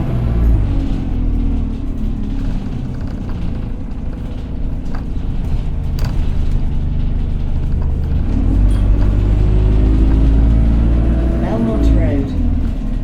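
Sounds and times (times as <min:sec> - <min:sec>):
bus engine whining and rumbling: 0:00.0 - 0:13.0.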